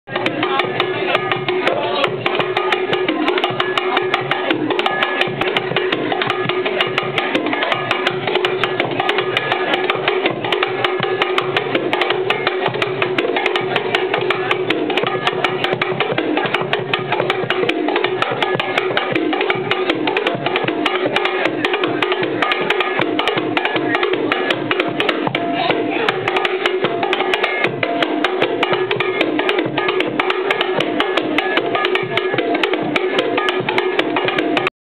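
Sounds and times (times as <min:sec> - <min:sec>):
bongos played by hand: 0:00.1 - 0:34.7.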